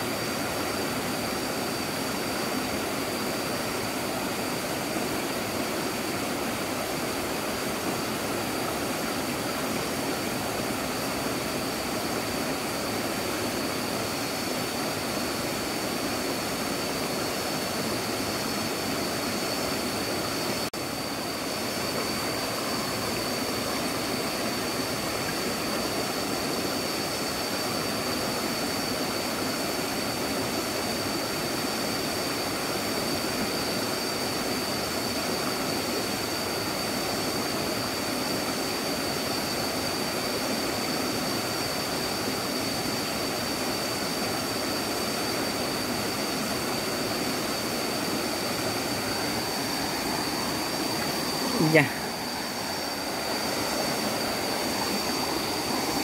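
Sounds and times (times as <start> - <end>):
high whine: 0.0 - 29.5, 36.5 - 56.0
stream rushing over rocks: 0.0 - 56.0.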